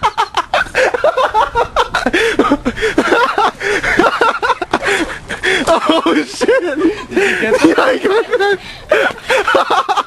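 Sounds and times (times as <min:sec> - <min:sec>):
hearty laughter: 0:00.0 - 0:10.0.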